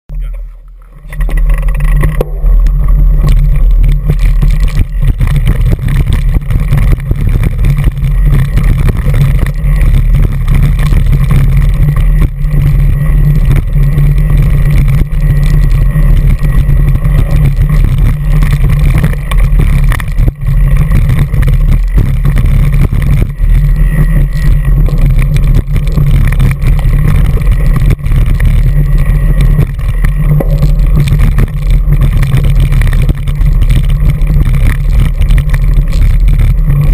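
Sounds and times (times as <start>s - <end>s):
wind rumble on camera: 0.1s - 36.9s
bike rattling over stones: 0.2s - 36.9s.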